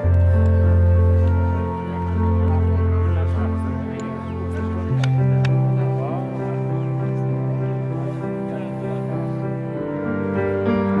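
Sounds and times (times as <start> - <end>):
slow held music notes: 0.0 - 11.0.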